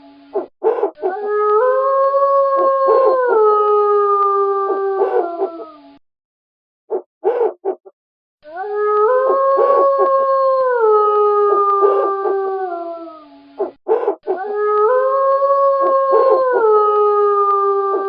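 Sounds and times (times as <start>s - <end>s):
wolf howling: 0.4s - 6.0s, 7.2s - 7.8s, 8.4s - 18.0s.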